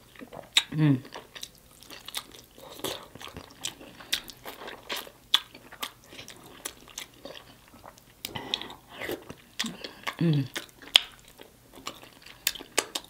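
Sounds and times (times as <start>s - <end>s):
chewing and lip smacking: 0.0s - 13.0s.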